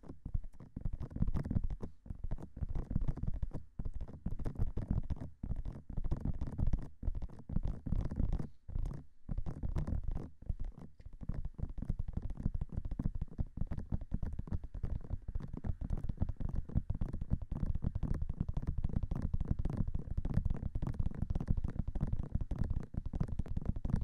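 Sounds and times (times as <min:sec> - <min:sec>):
fingertips tapping on microphone: 0:00.0 - 0:24.0.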